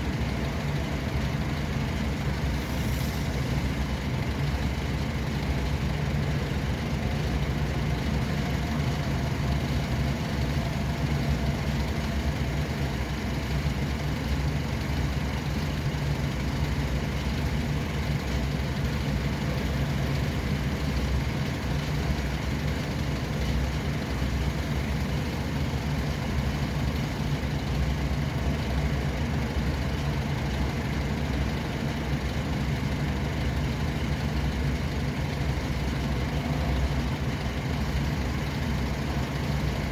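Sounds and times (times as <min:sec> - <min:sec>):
vehicle engines humming on road: 0:00.0 - 0:39.9.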